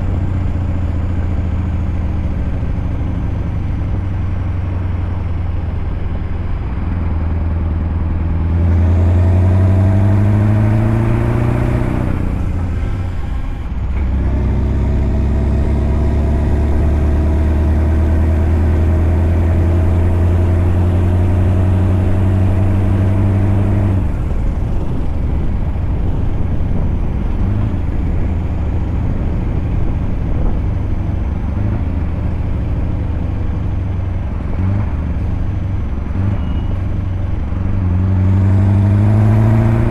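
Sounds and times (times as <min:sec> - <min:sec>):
truck engine pulling under load: 0:00.0 - 0:39.9.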